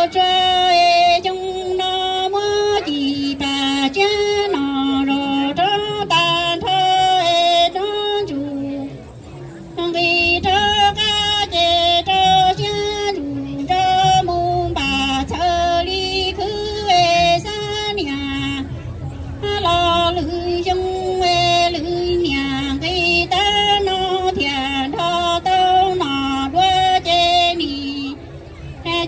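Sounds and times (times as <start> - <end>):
woman singing into a microphone: 0.0 - 29.0.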